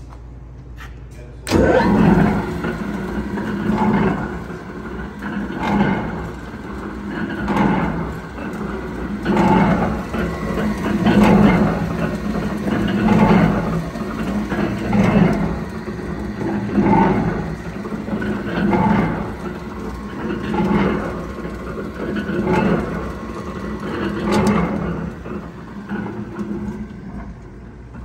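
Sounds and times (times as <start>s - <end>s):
machine low drone: 1.2s - 28.0s
machine clatter: 1.5s - 28.0s.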